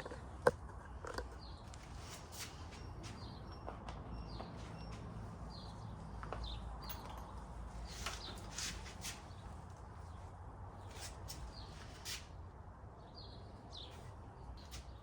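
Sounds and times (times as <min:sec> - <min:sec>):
birds chirping: 0:00.0 - 0:10.2, 0:13.0 - 0:15.0.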